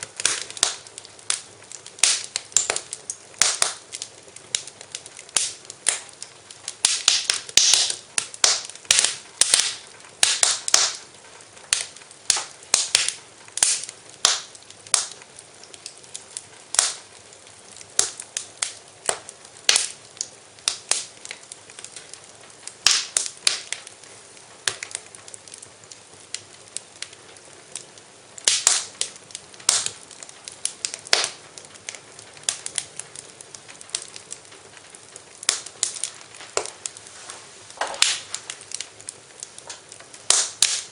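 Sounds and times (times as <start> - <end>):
sharp pops and snaps: 0.0 - 40.9
wood fire crackling: 0.0 - 40.9.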